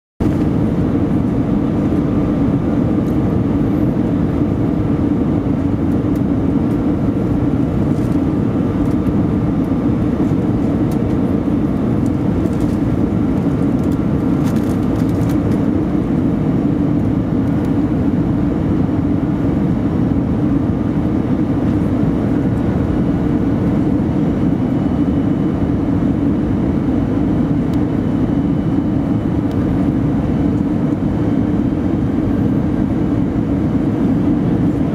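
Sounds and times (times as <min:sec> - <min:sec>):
faint steady whine: 0:00.2 - 0:34.9
jet engine low hum: 0:00.2 - 0:34.9.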